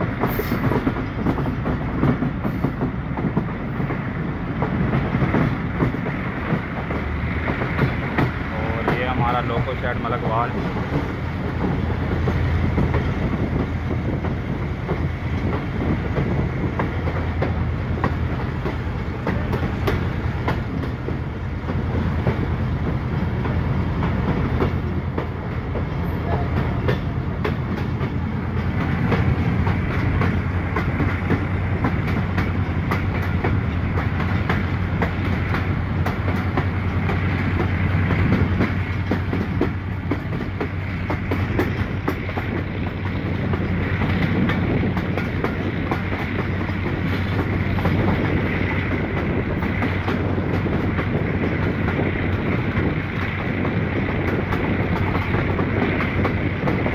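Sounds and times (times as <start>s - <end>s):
train wheels rumbling on rails: 0.0s - 56.9s
wheels clicking over rail joints: 0.0s - 56.9s.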